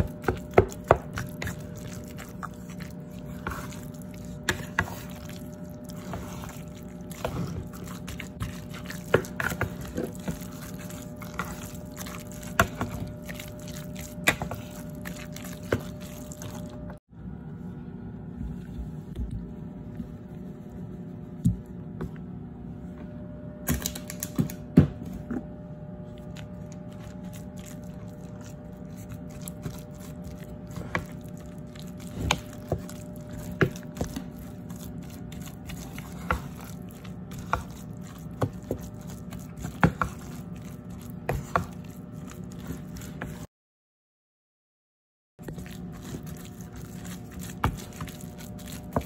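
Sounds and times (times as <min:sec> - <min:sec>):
steady low hum: 0:00.0 - 0:43.5.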